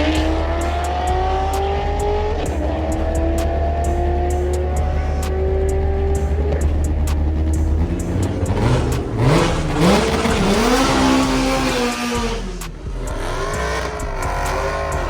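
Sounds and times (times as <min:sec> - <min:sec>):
car engine accelerating: 0:00.0 - 0:15.0
second engine rising and falling: 0:00.0 - 0:15.0.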